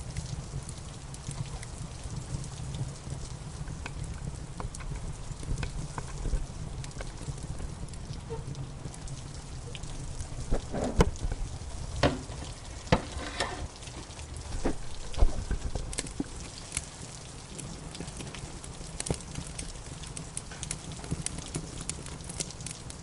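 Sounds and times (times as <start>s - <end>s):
fire popping: 0.0s - 23.0s
rain hissing: 0.0s - 23.0s
wood fire crackling: 0.0s - 23.0s.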